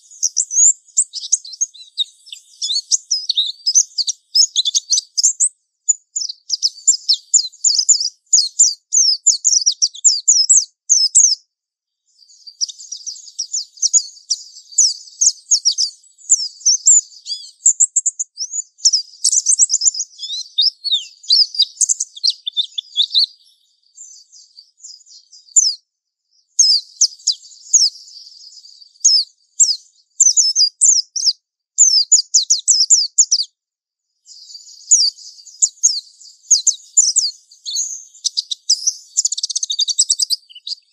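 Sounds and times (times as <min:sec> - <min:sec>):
bird high twittering song: 0:00.0 - 0:40.9.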